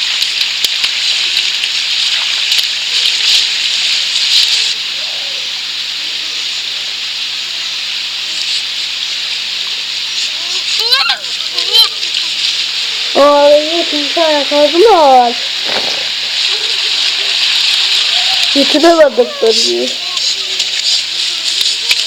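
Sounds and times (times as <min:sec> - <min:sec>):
rushing hiss of flowing water: 0:00.0 - 0:22.0.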